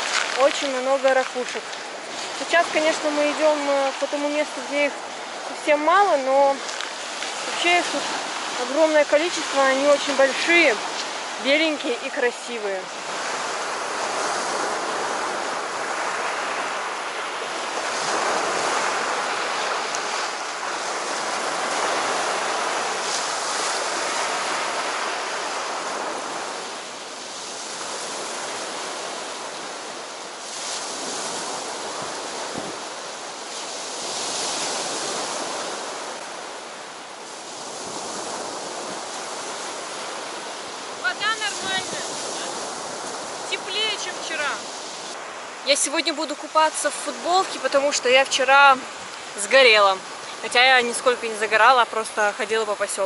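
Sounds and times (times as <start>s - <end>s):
surf breaking on beach: 0.0s - 53.0s.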